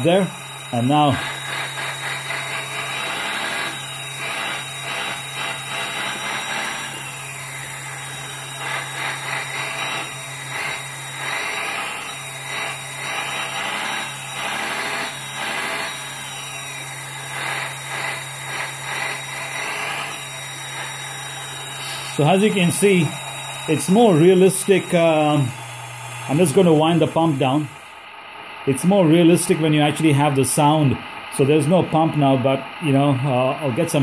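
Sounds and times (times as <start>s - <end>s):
hydraulic pump whine: 0.0s - 34.0s.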